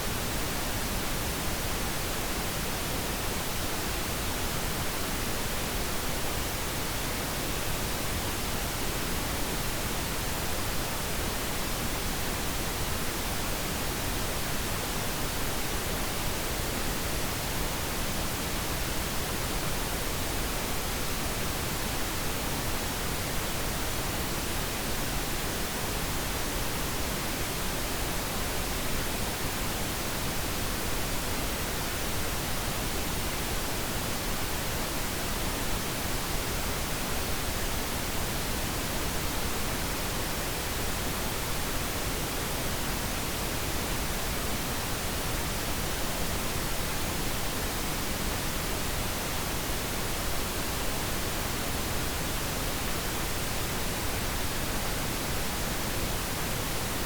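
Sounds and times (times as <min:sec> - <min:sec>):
steady pink noise hiss: 0:00.0 - 0:57.0.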